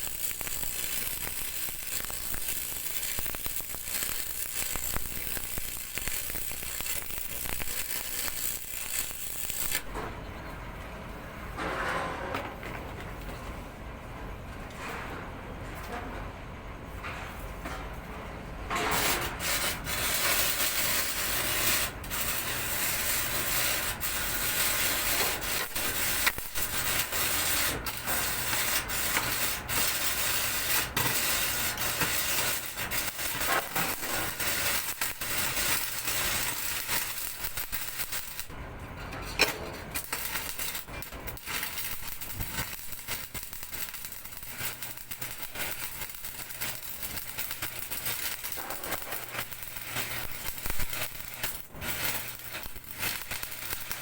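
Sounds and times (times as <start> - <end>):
arc welding crackling hiss: 0.0 - 9.9, 18.7 - 38.6, 39.4 - 54.0.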